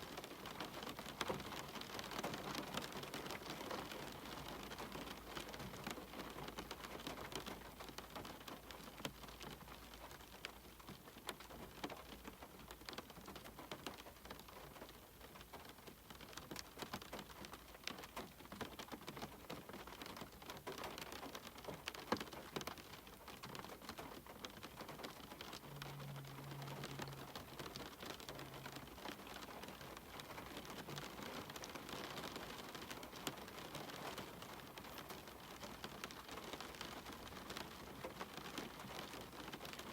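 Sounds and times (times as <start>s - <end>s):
hiss of downpour: 0.0s - 39.9s
raindrops ticking on window: 0.0s - 39.9s.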